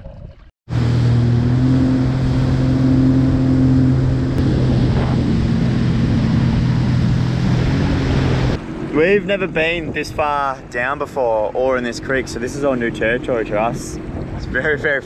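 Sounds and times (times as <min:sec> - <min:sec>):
jet ski engine hum: 0:00.7 - 0:15.0.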